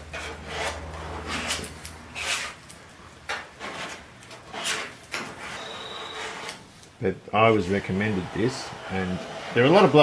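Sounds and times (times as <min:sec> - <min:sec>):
spreader scraping filler on metal: 0:00.0 - 0:02.7, 0:03.3 - 0:06.8, 0:07.4 - 0:10.0.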